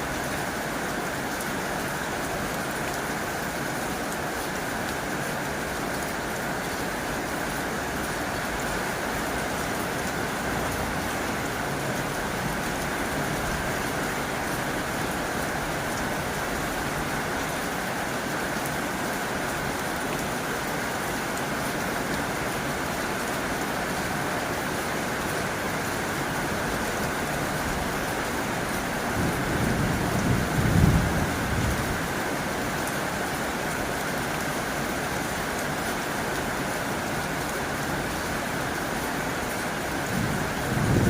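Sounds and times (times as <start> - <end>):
heavy rain on a tin roof: 0.0 - 41.0.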